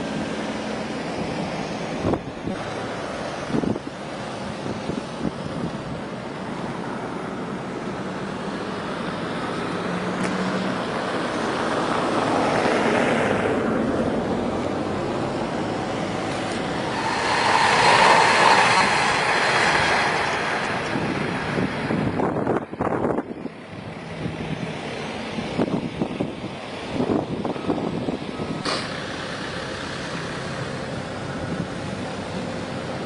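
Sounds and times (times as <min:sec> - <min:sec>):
train passing with rushing rumble: 0:00.0 - 0:33.0.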